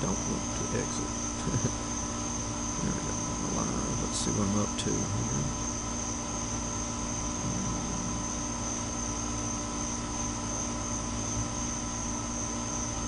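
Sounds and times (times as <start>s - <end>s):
air conditioner humming: 0.0s - 13.0s
high-pitched whine: 0.0s - 13.0s.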